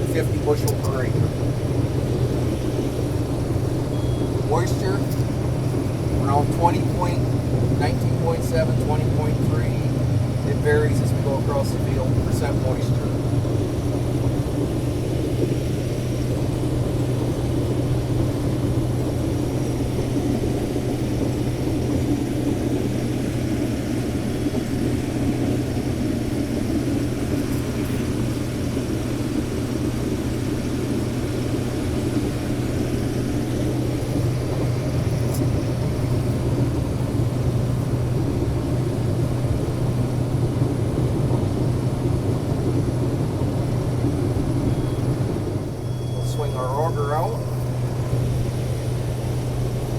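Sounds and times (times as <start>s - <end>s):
combine harvester engine drone: 0.0s - 49.9s.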